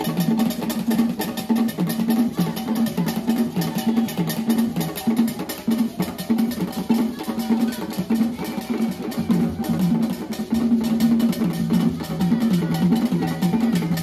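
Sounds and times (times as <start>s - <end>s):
hand drums playing fast rhythm: 0.0s - 14.0s.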